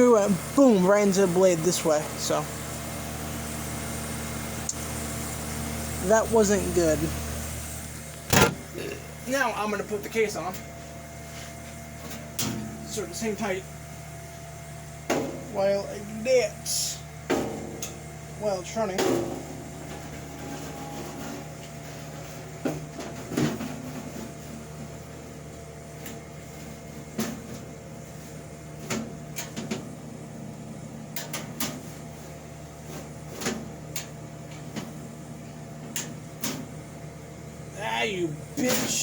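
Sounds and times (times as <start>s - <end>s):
dehumidifier humming: 0.0s - 39.0s.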